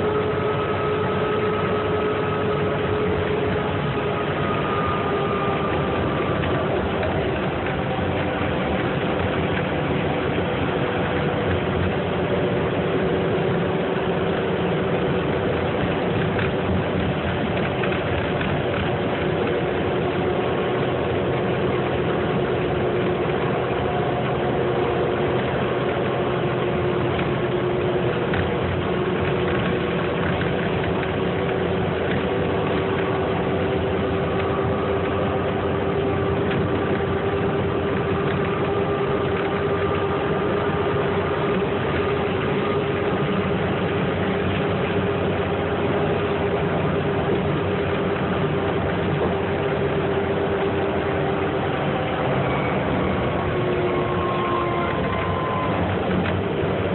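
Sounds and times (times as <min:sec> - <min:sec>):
bus engine running: 0:00.0 - 0:56.9
steady drivetrain whine: 0:00.0 - 0:56.9
tyre and road noise: 0:00.0 - 0:56.9.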